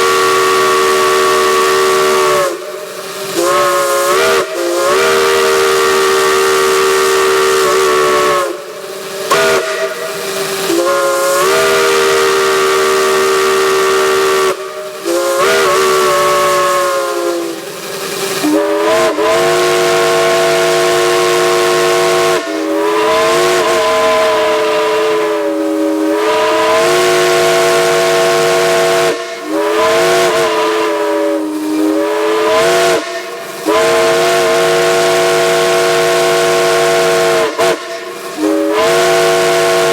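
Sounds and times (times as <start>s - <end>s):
chime steam whistle blasts: 0.0s - 39.9s
steam hiss: 0.0s - 39.9s.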